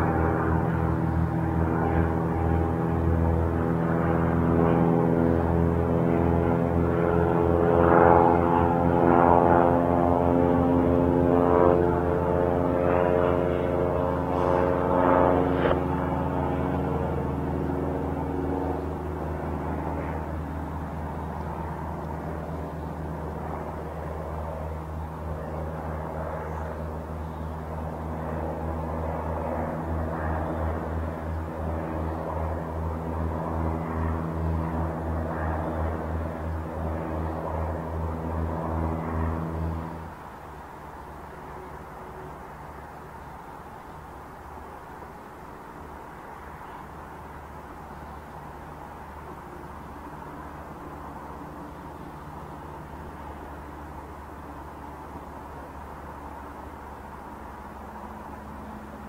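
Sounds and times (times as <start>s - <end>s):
aircraft engine drone overhead: 0.0s - 59.0s.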